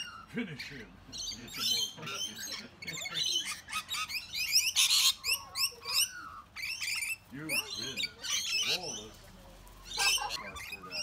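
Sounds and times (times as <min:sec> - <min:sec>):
parrots chattering: 0:00.0 - 0:11.0.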